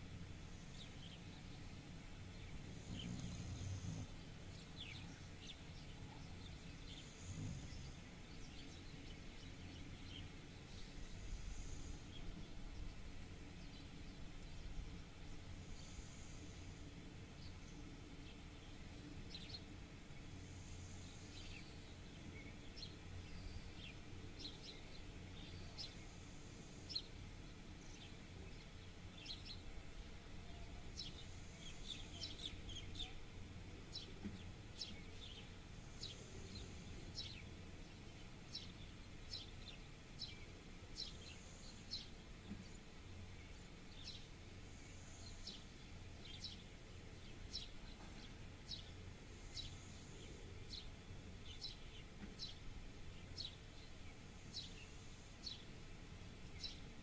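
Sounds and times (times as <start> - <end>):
faint low steady hum: 0.0 - 57.0
small birds chirping: 0.0 - 57.0.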